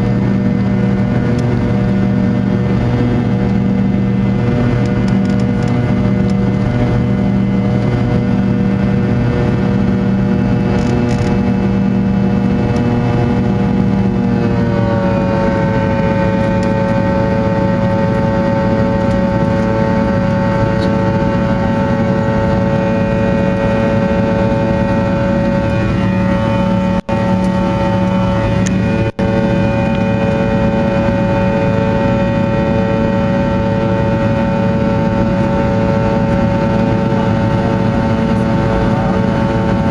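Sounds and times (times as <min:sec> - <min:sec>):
jet engine whine in cabin: 0:00.0 - 0:39.9.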